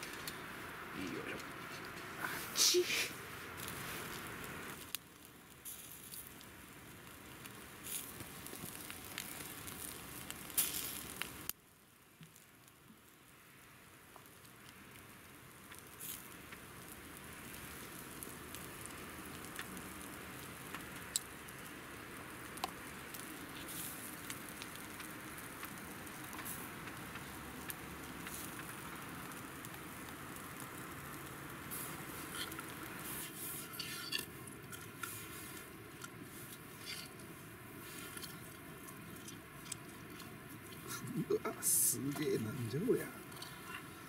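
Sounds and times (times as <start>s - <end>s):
chicken sizzling on a spit: 0.0s - 44.0s
embers crackling and popping: 0.0s - 44.0s.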